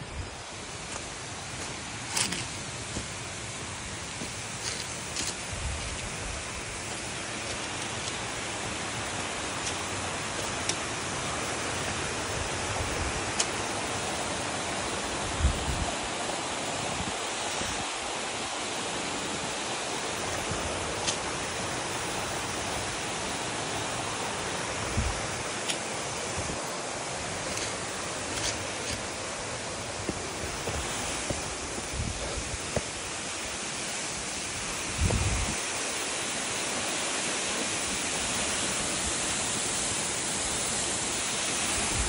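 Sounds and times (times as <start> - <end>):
waterfall hiss: 0.0 - 42.0.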